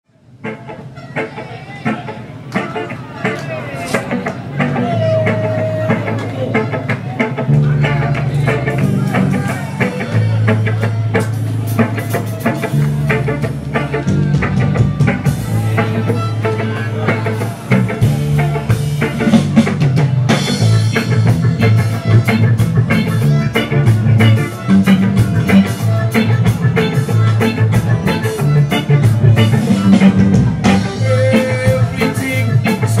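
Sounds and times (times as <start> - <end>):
live reggae band playing: 0.2 - 33.0.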